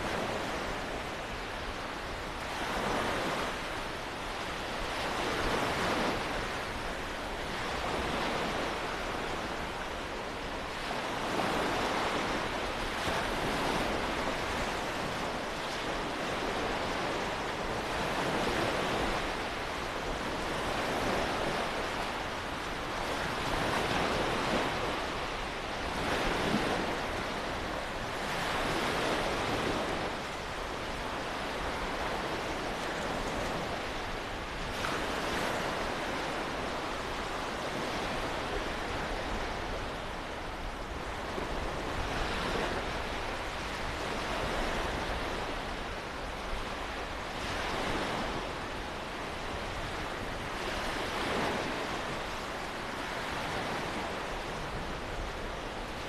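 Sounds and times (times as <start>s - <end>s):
small waves breaking on beach: 0.0s - 56.0s
wind rumbling on microphone: 0.0s - 56.0s.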